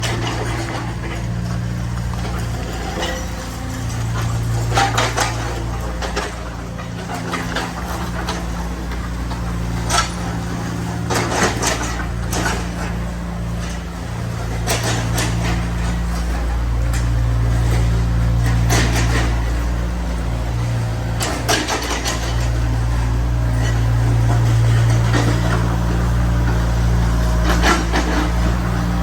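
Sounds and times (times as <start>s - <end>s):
demolition machine engine running: 0.0s - 29.0s.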